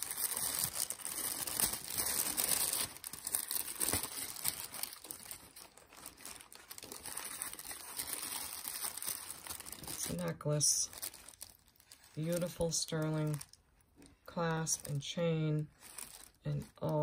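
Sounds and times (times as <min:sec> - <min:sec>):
wrapping crinkling and rustling: 0:00.0 - 0:17.0.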